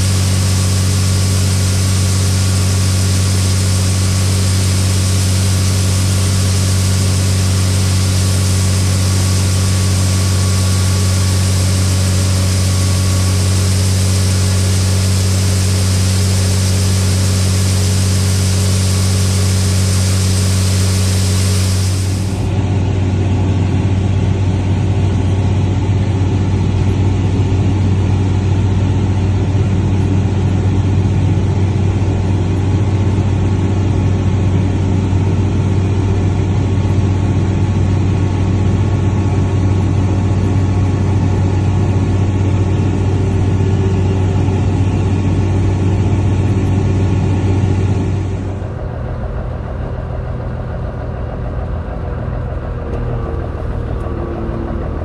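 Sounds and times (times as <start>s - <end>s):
harvest machinery engine: 0.0s - 55.0s.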